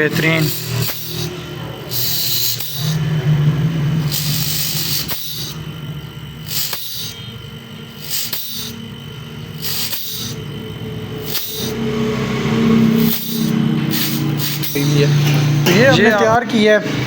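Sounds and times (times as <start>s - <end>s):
air hissing: 0.0s - 17.0s
electrical hum: 0.0s - 17.0s
refrigerator compressor running: 0.0s - 17.0s.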